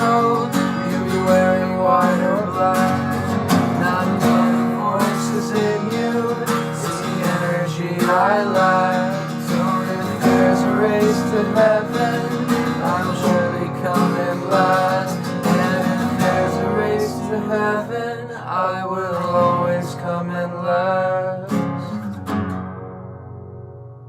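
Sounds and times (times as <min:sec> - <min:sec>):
person singing: 0:00.0 - 0:22.2
acoustic guitar strumming chords: 0:00.0 - 0:24.0.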